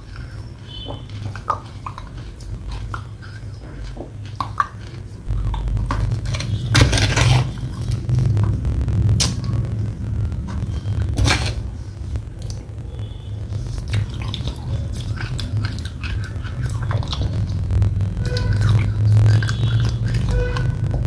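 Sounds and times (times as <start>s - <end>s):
wet mouth eating sounds: 0.0s - 9.6s, 13.4s - 21.0s
steady low hum: 0.0s - 21.0s.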